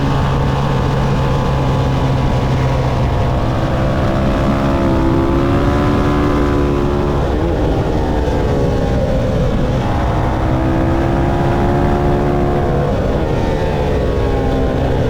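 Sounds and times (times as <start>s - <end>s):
low rush of noise: 0.0s - 15.0s
motorcycle engine revving: 0.0s - 15.0s.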